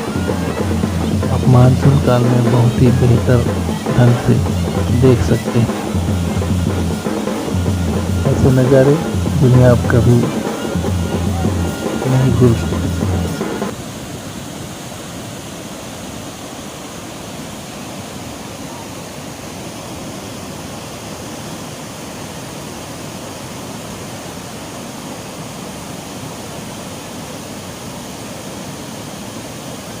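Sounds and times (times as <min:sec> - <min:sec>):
waterfall roaring onto rocks: 0:00.0 - 0:30.0.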